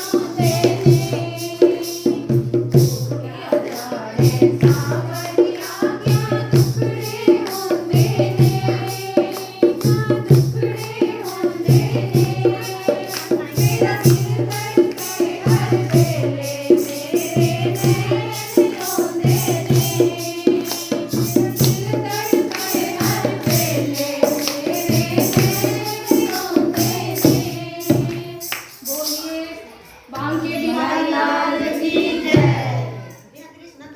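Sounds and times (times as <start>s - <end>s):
fast steady percussion: 0.0s - 33.3s
voices singing a devotional song: 0.0s - 33.9s.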